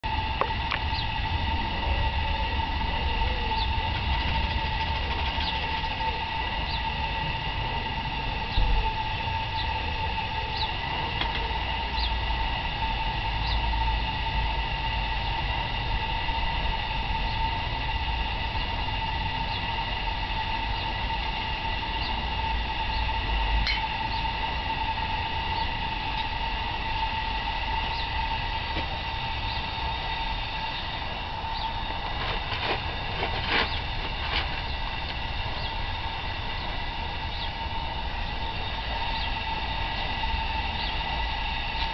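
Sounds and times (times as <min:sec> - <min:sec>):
steam locomotive whine: 0:00.0 - 0:41.9.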